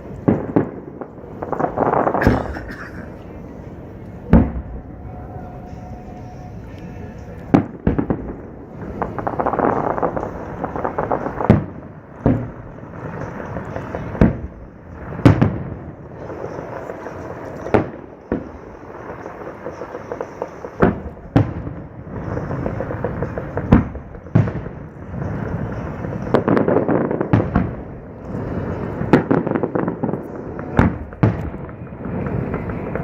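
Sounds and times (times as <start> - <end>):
fireworks bursting booms: 0.0 - 3.3, 4.0 - 33.0
fireworks crackling: 0.0 - 33.0.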